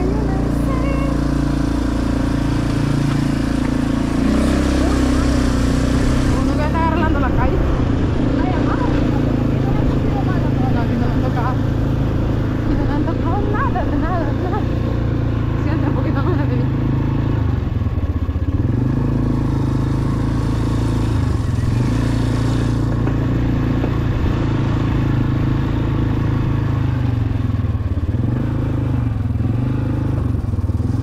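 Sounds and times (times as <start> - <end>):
small motorcycle engine revving: 0.0 - 31.0.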